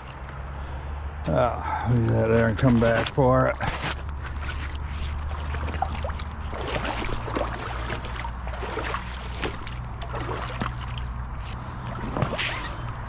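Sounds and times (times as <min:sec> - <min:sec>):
creek flowing: 0:00.6 - 0:13.0
boots splashing in water: 0:02.1 - 0:13.0.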